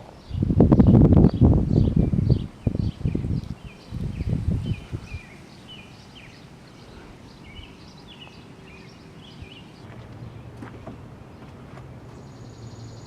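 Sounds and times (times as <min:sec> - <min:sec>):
wind buffeting microphone: 0:00.0 - 0:12.9
birds chirping: 0:00.0 - 0:13.0.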